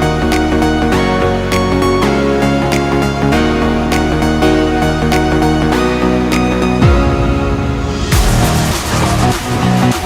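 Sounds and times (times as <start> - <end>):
electronic music with synth chords: 0.0 - 10.0.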